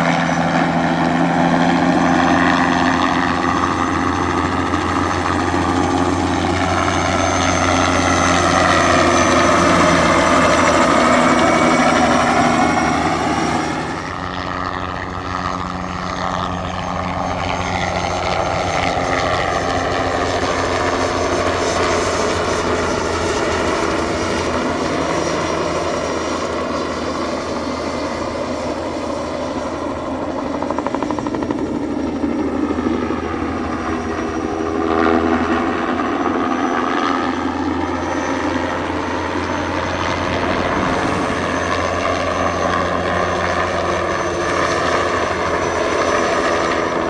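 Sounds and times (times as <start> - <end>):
helicopter flying past: 0.0 - 47.0.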